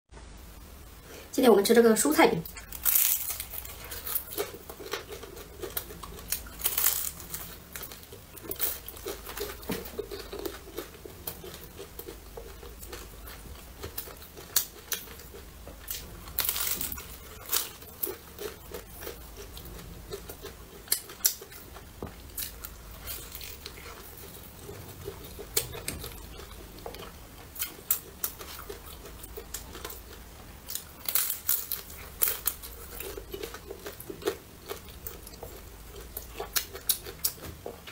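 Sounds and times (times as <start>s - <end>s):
crunching bites of fried food: 2.6s - 24.4s, 25.5s - 37.5s
quiet chewing: 2.6s - 37.9s.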